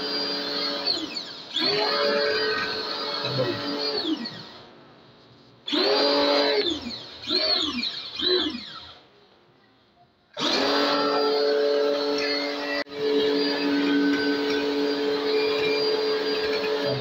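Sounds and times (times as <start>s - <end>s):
pressure washer pump motor: 0.0s - 4.6s, 5.7s - 9.0s, 10.4s - 17.0s.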